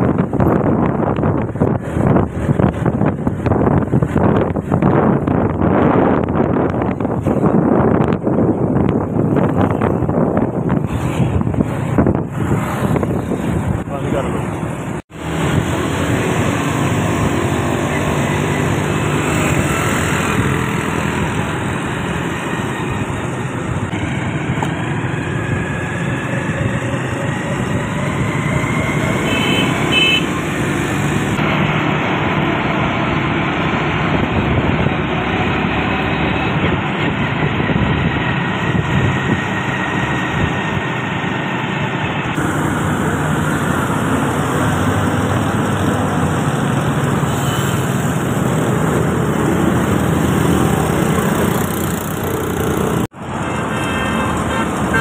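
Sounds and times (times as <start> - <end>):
engine and road drone: 0.0 - 55.0
passing cars and motorcycles: 0.0 - 55.0.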